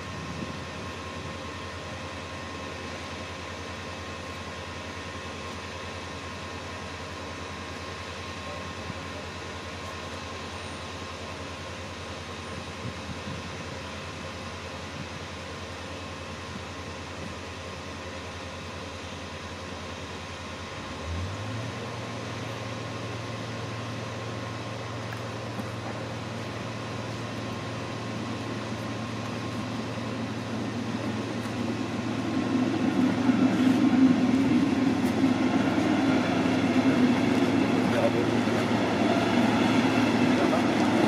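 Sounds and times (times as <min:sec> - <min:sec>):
train rumble approaching: 0:00.0 - 0:41.0.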